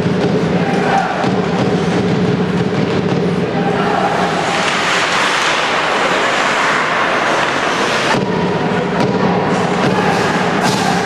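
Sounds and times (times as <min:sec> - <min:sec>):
arena crowd noise: 0:00.0 - 0:11.0.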